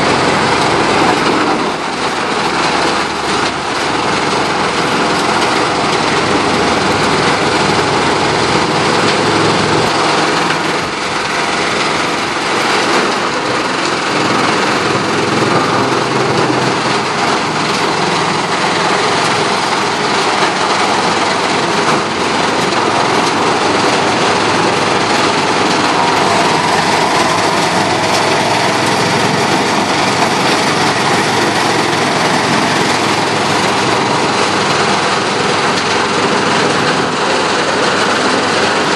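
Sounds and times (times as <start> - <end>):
tub grinder running under load: 0.0 - 38.9.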